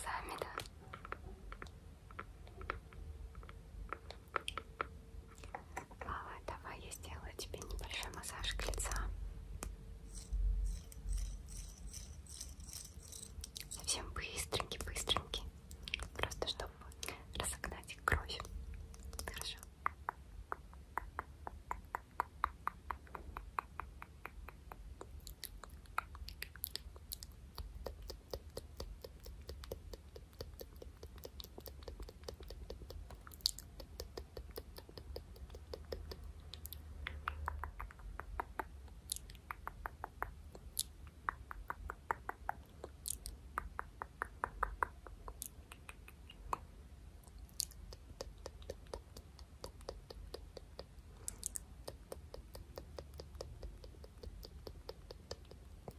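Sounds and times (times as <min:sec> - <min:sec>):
fingers clicking and tapping: 0:00.0 - 0:46.7, 0:47.3 - 0:55.9.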